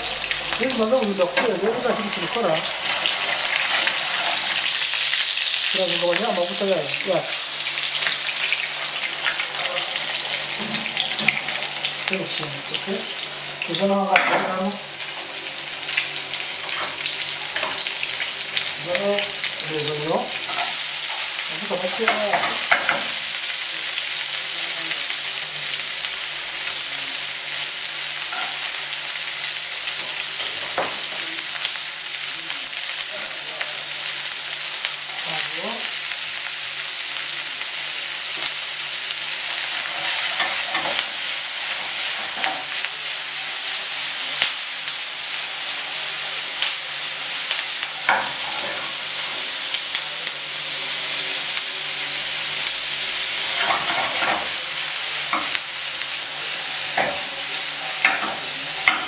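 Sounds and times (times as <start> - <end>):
meatballs sizzling in oil: 0.0 - 59.0.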